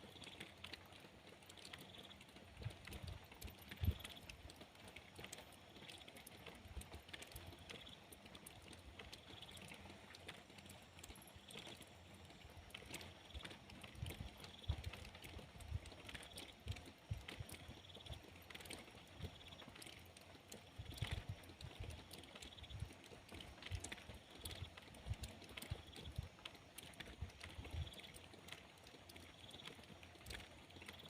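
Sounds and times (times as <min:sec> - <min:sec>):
light rain falling: 0:00.0 - 0:31.0.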